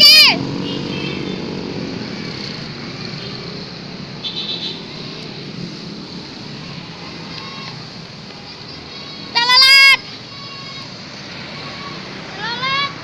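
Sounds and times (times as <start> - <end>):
passing vehicle engine and tyres: 0.0 - 13.0.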